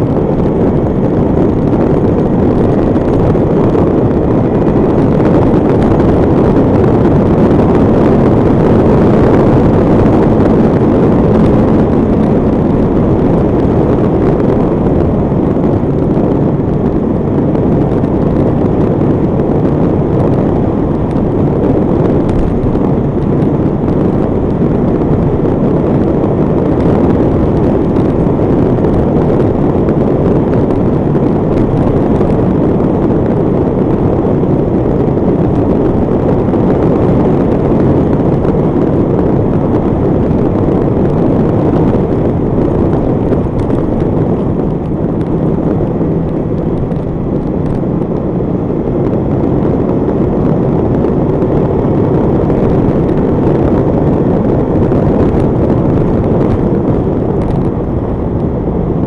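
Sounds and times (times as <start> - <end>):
motorcycle engine droning: 0.0 - 59.0
wind rushing on microphone: 0.0 - 59.0.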